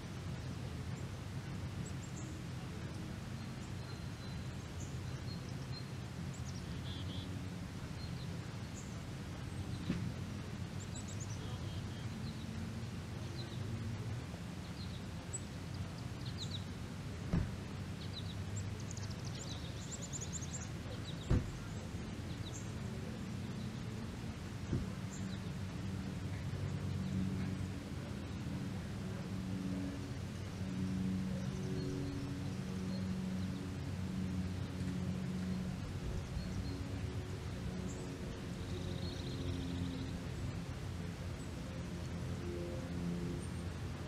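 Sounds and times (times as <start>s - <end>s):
songbirds chirping and trilling: 0.0s - 44.0s.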